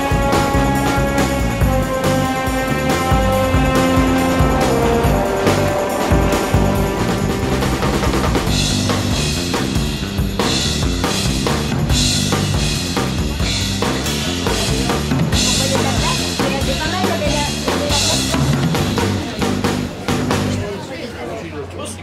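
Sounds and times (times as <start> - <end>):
background music with drums and bass: 0.0 - 20.7.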